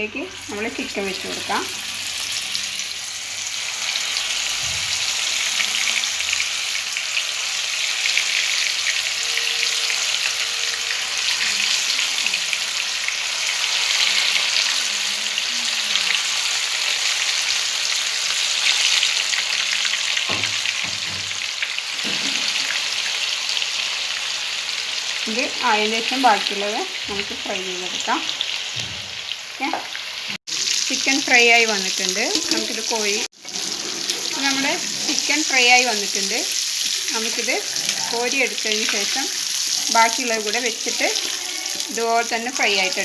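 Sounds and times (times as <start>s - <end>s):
chicken sizzling in a pan: 0.0s - 43.0s.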